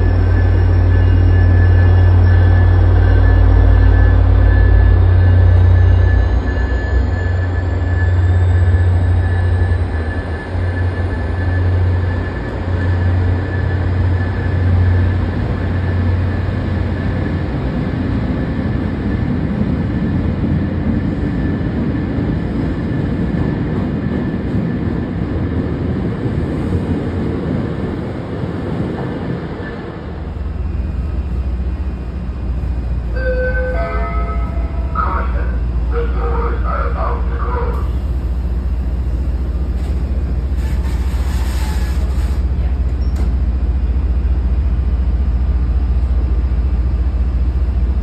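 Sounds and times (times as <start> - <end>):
standing train hum: 0.0 - 48.0
train wheels rumbling: 0.0 - 48.0.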